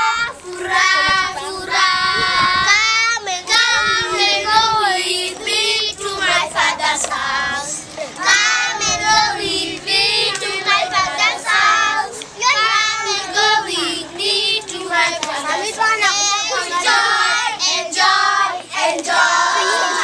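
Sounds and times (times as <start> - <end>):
children singing together: 0.0 - 20.0.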